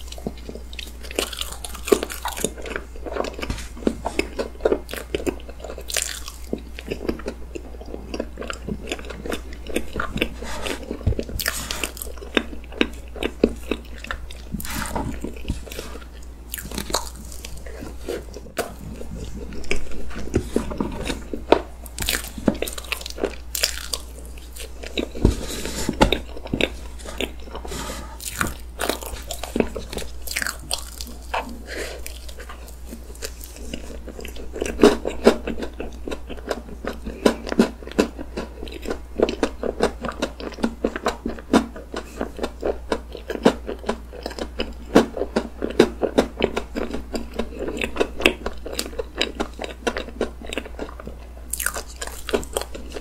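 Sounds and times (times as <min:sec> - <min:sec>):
wet chewing mouth sounds: 0:00.0 - 0:25.3, 0:25.9 - 0:53.0.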